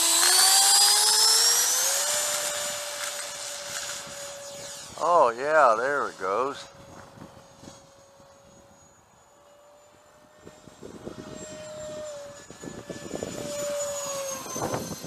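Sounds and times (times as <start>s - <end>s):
model jet fan whine: 0.0s - 15.0s.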